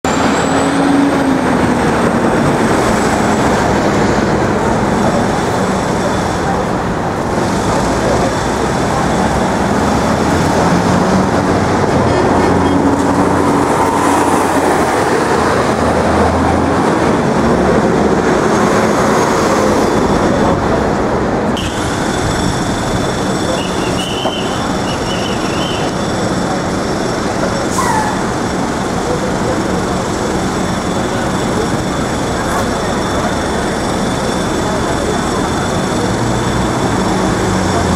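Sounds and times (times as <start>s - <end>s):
traffic and machinery din: 0.0s - 37.9s.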